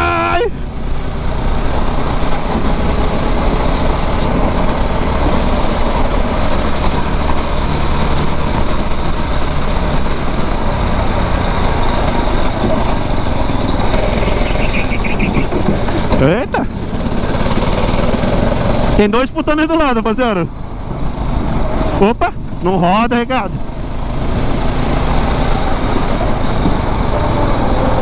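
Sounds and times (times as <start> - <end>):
kart engine running: 0.0 - 28.0.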